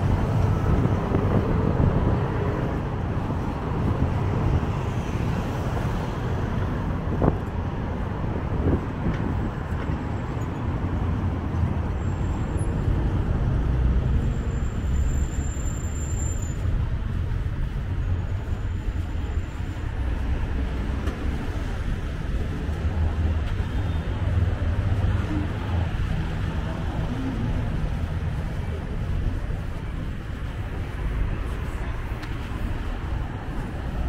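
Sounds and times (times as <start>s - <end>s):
passing cars: 0.0s - 34.0s.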